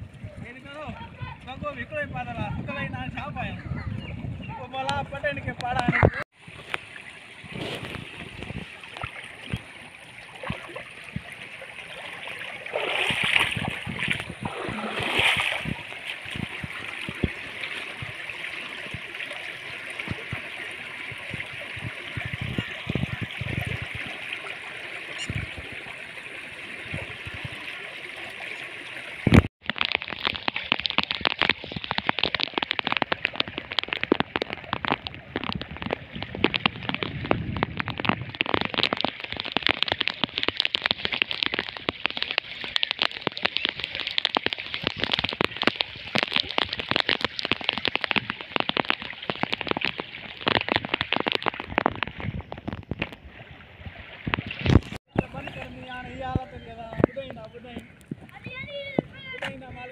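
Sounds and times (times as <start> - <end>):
floodwater rushing and splashing: 4.7 - 59.9.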